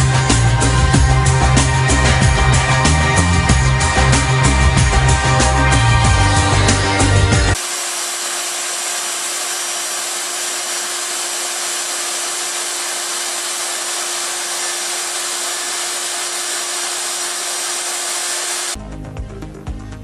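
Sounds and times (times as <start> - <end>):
hot-air plastic welder running: 0.0 - 18.8.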